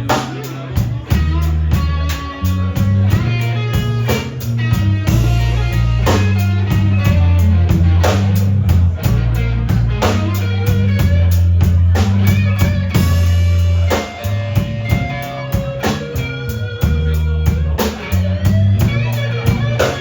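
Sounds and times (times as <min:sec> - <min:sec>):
bass notes: 0:00.0 - 0:20.0
blues guitar lines: 0:00.0 - 0:20.0
drum kit beat: 0:00.0 - 0:20.0.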